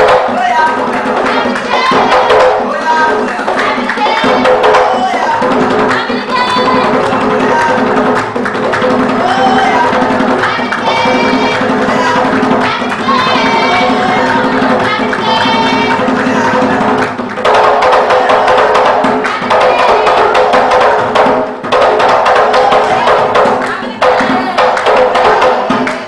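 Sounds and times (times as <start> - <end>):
hand drum beaten fast: 0.0 - 26.0.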